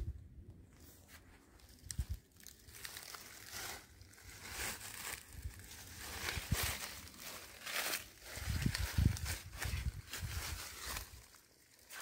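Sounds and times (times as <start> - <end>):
footsteps on dry leaves: 0.9 - 12.0.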